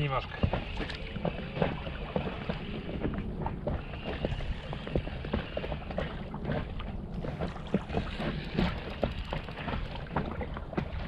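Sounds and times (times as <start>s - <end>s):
low rumble of wind: 0.0s - 11.0s
water lapping against boat hull: 0.0s - 11.0s.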